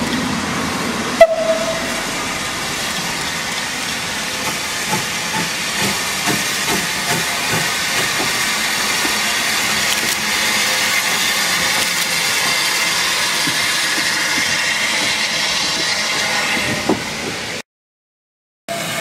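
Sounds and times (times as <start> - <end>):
steam locomotive passing: 0.0 - 17.6.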